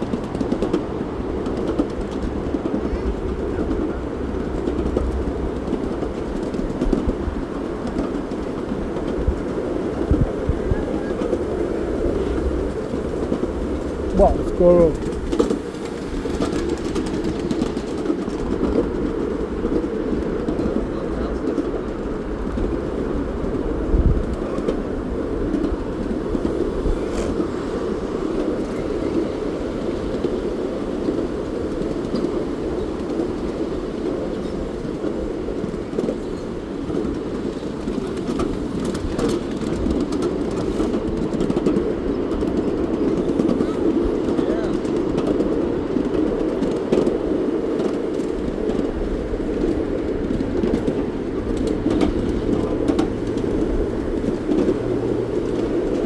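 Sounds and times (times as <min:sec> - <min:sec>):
steam train rumbling: 0:00.0 - 0:56.0
train knock: 0:00.0 - 0:56.0.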